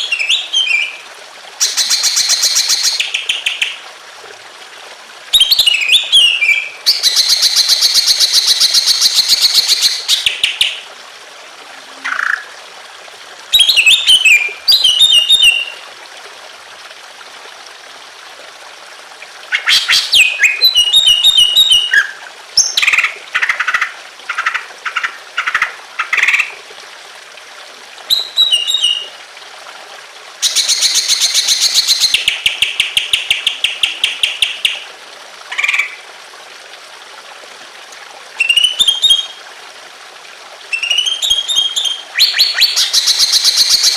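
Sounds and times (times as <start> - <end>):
water trickling: 0.0 - 43.9.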